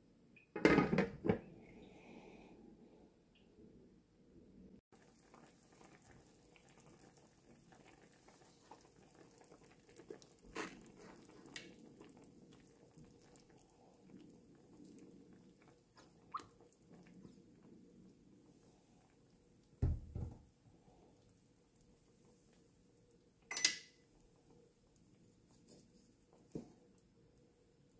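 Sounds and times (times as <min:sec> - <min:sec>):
stew simmering with crackles: 0:04.9 - 0:27.9.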